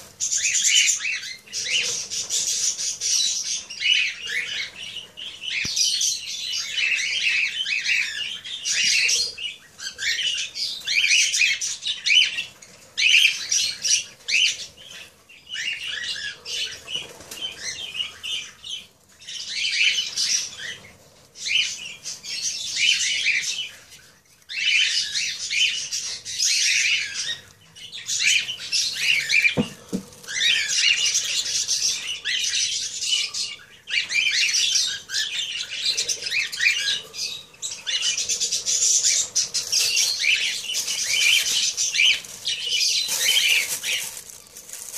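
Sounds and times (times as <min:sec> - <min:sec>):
birds chattering: 0:00.0 - 0:44.9.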